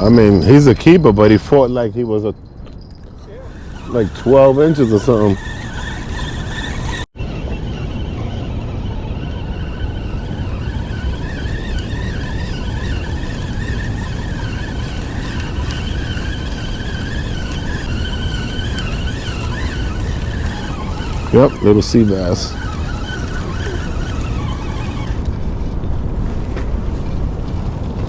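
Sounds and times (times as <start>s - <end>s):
faint wavering high whine: 0.0s - 26.0s
distant engine noise: 0.0s - 28.0s
wind rumble: 0.0s - 28.0s.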